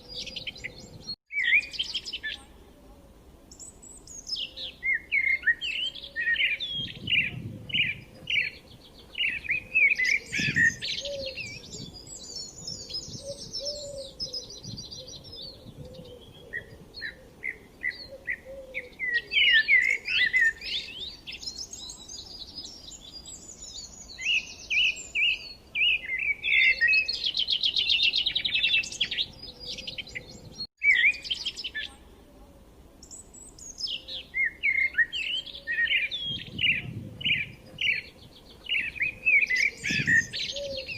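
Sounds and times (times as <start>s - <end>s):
small birds chirping and trilling: 0.0s - 2.7s, 3.5s - 32.1s, 33.0s - 40.9s.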